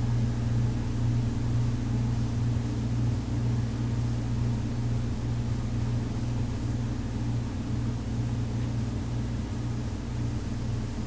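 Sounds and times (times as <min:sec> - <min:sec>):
steady low hum with hiss: 0:00.0 - 0:11.0.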